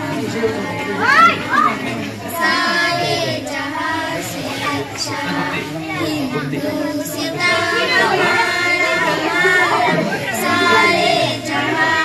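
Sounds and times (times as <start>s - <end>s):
children's voices overlapping: 0.0s - 12.0s.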